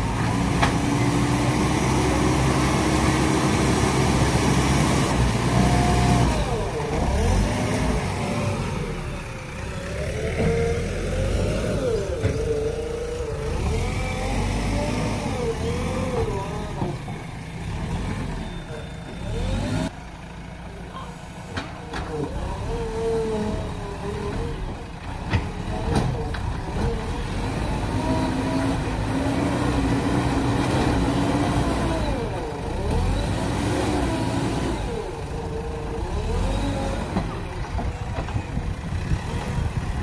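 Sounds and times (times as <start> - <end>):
diesel engine revving under load: 0.0 - 40.0.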